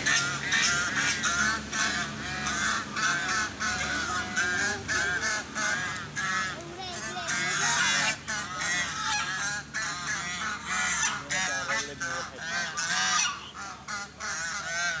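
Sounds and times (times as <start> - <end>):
waterfowl honking: 0.0 - 15.0.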